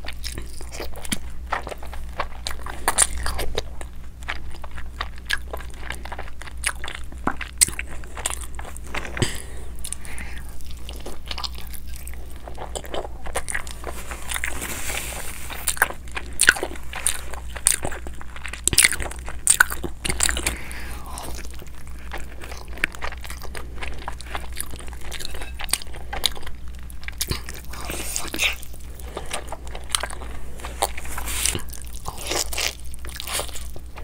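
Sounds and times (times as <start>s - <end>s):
crunchy chewing of tacos: 0.0s - 34.0s.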